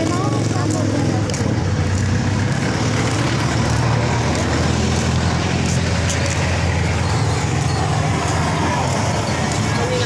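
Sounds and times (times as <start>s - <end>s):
street traffic noise: 0.0s - 10.0s
vehicle engine running close by: 0.0s - 10.0s.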